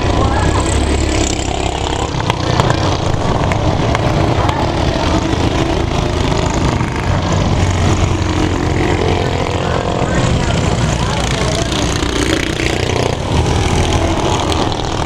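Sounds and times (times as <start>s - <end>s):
minibike engines racing: 0.0s - 15.0s.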